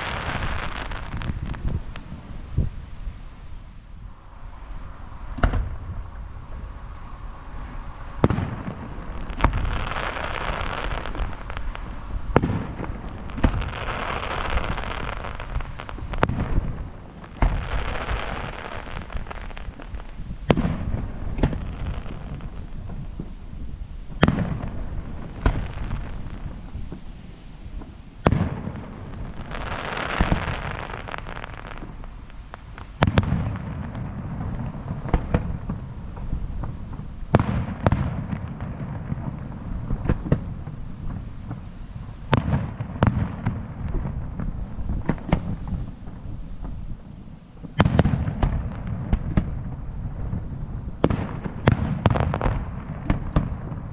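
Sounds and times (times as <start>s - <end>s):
firework crackling: 0.0s - 53.9s
firework shells booming: 4.9s - 23.4s, 24.1s - 27.1s, 27.8s - 53.9s.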